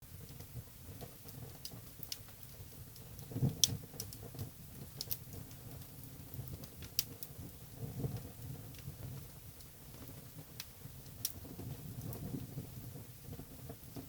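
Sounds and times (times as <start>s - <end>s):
wood crackling and popping: 0.2s - 14.0s.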